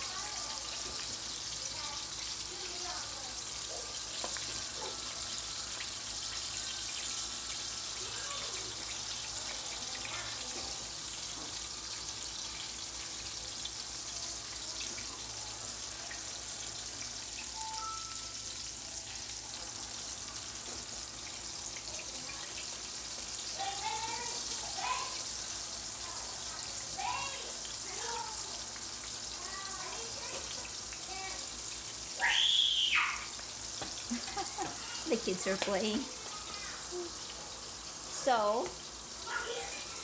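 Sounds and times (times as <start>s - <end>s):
fish sizzling in a pan: 0.0s - 40.0s.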